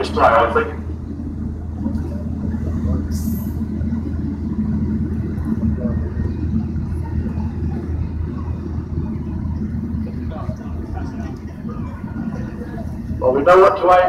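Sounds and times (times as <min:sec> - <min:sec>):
lorry engines rumbling: 0:00.0 - 0:14.0.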